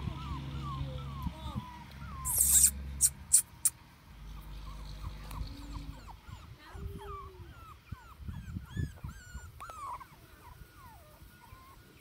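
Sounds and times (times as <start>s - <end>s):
puppy whimpering: 0.0s - 3.8s, 4.4s - 12.0s.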